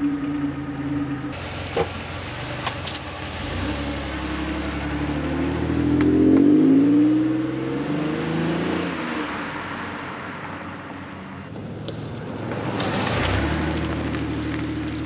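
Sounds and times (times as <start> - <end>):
car engine accelerating: 0.0 - 10.4, 11.5 - 15.0.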